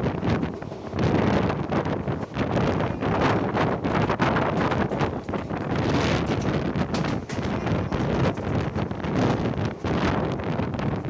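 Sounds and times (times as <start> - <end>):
train running noise: 0.0 - 11.0
wind buffeting microphone: 0.0 - 11.0.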